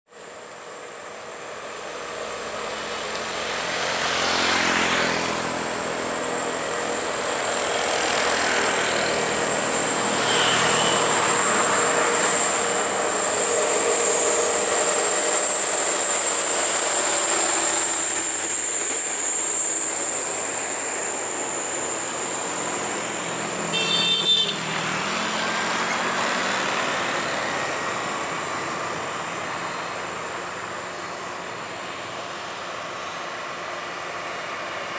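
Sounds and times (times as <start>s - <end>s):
steady high whine: 0.1s - 34.9s
heavy trucks passing: 0.7s - 19.4s, 22.1s - 34.9s.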